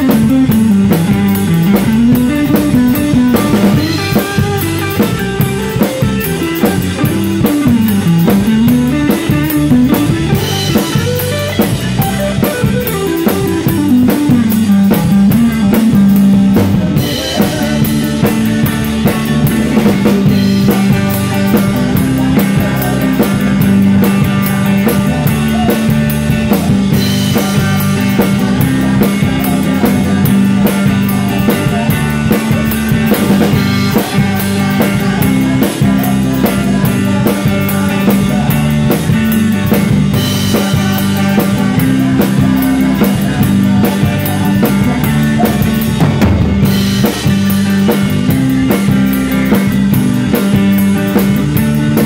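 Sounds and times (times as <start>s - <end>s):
live band playing: 0.0s - 52.0s
low bass line: 0.0s - 52.0s.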